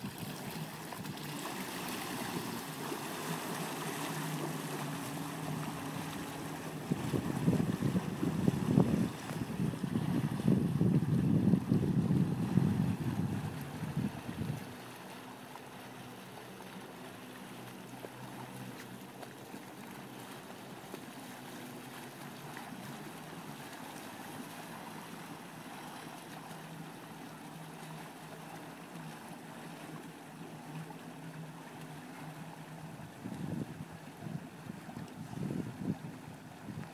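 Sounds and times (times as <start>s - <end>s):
boat engine low drone: 0.0s - 36.9s.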